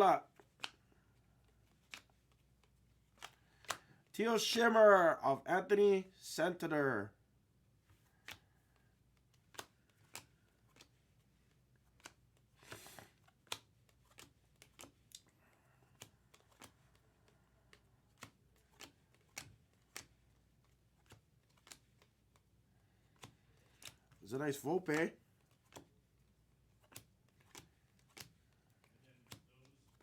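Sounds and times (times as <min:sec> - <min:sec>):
card rustle: 0:00.2 - 0:04.0, 0:07.8 - 0:30.0
cards clicking: 0:00.3 - 0:04.0, 0:07.8 - 0:30.0.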